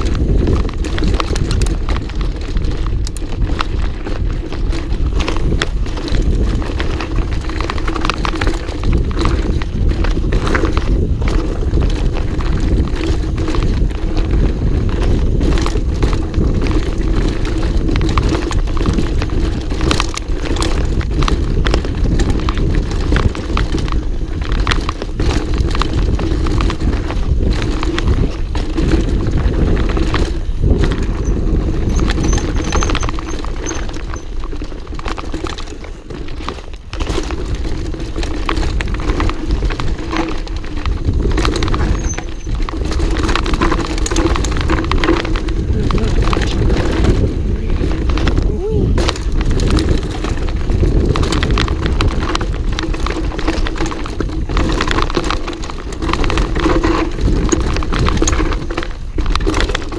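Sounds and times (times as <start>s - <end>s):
bike rattling over rough trail: 0.0s - 59.9s
wind rumble on microphone: 0.0s - 59.9s.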